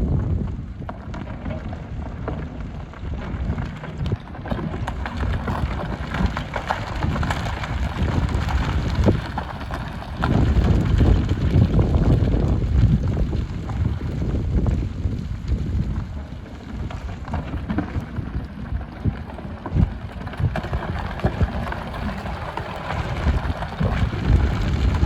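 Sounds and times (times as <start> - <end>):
gravel and stones clattering: 0.0 - 25.0.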